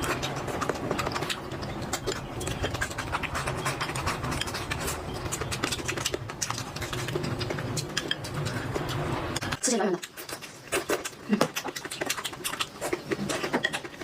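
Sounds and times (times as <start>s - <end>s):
chewing and lip-smacking: 0.0s - 14.0s.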